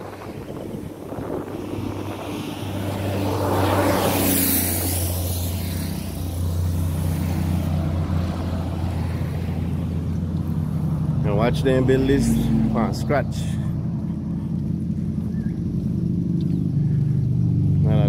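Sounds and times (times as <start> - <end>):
pickup truck passing: 0.0 - 18.0
truck engine drone: 0.0 - 18.0.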